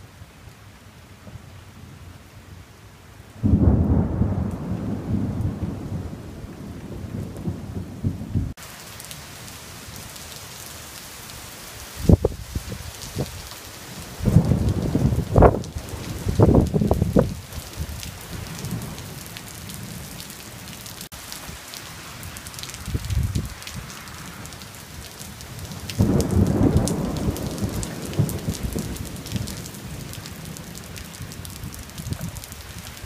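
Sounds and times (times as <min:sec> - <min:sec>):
heavy rain hissing: 0:05.1 - 0:33.0.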